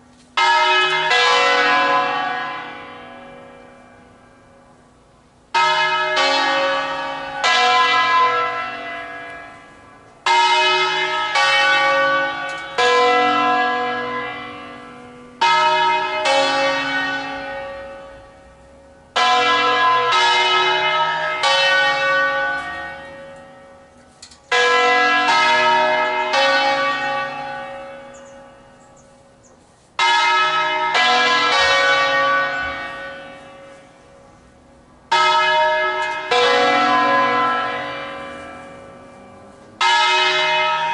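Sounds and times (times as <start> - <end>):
large church bells tolling: 0.0 - 40.9.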